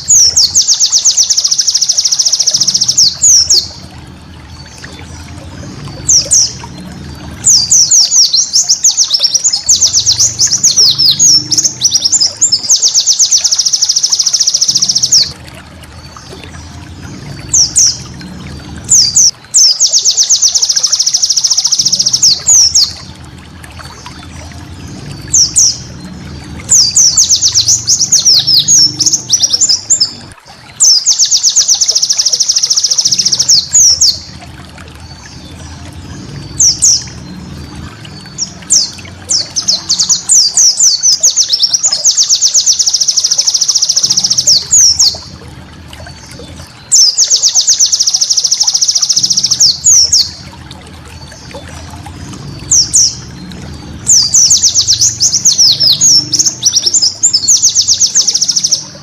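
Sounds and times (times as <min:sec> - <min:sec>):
bird twittering song: 0:00.0 - 0:45.4, 0:46.0 - 0:59.0.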